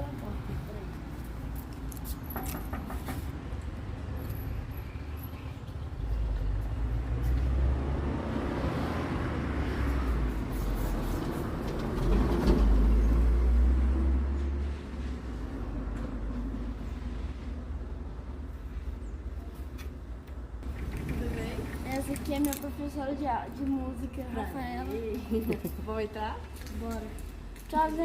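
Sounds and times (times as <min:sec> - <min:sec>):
passing vehicle engine rumble: 0:00.0 - 0:19.5, 0:20.5 - 0:26.6.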